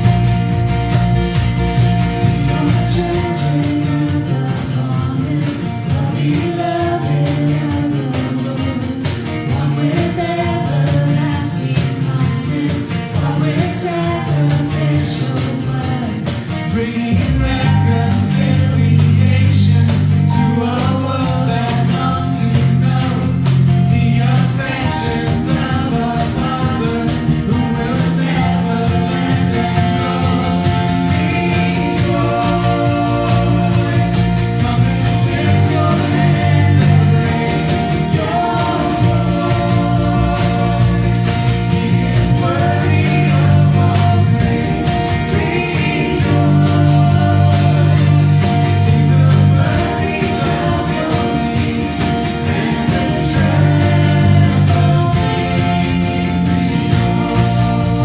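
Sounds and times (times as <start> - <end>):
people singing: 0.0 - 58.0
strummed acoustic guitars: 0.0 - 58.0.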